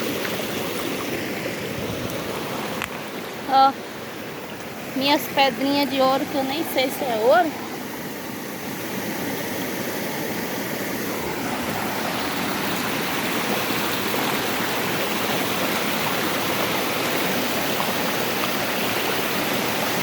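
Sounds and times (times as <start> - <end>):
waterfall and stream rushing: 0.0 - 20.0.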